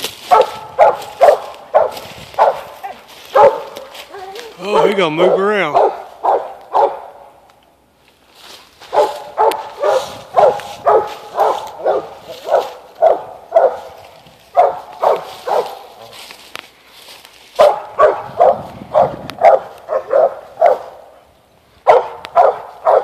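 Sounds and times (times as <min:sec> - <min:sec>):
dog barking: 0:00.2 - 0:07.2, 0:08.9 - 0:16.1, 0:17.6 - 0:21.1, 0:21.8 - 0:23.0.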